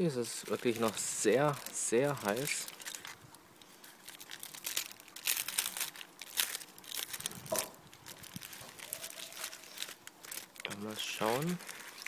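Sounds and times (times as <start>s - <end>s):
aluminium foil crinkling: 0.1s - 12.0s.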